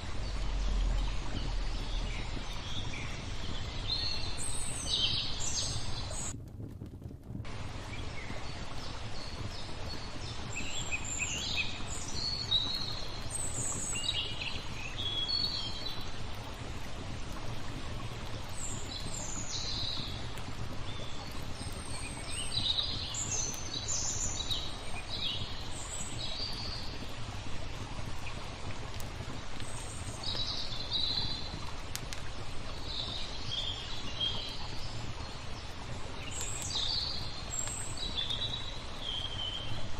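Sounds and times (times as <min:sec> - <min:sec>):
songbirds chirping: 0:00.0 - 0:06.4, 0:07.5 - 0:39.9
flowing water: 0:00.0 - 0:39.9
wood fire crackling: 0:00.0 - 0:39.9.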